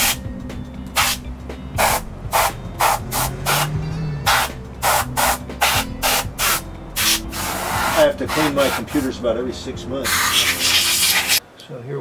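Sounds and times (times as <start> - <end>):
compressed air hissing blasts: 0.0 - 0.2, 0.9 - 9.2, 10.0 - 11.4.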